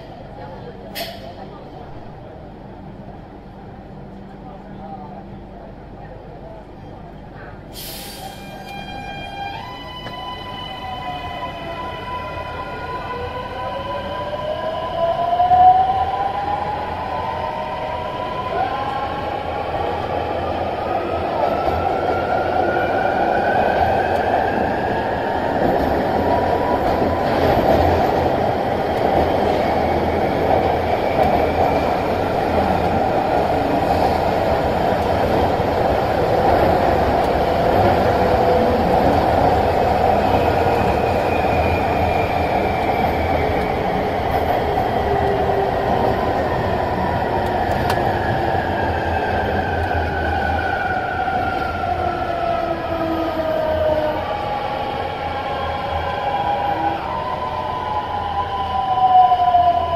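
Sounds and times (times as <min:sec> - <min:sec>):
train wheel and running noise: 0:00.0 - 0:10.9, 0:13.6 - 0:59.9.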